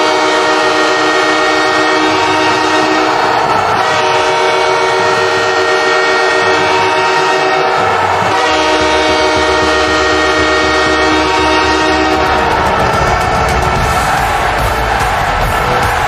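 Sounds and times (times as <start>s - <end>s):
goal horn blast: 0.0s - 16.0s.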